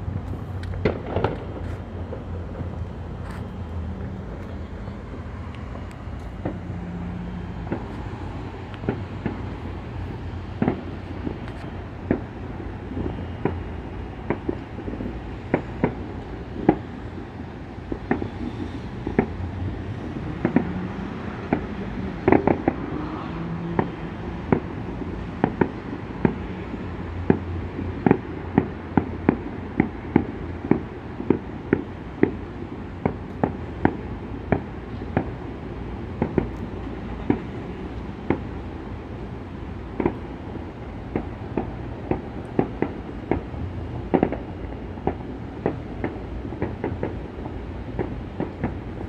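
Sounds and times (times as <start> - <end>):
fireworks bangs: 0.7 - 3.5, 6.2 - 38.6, 39.8 - 49.0.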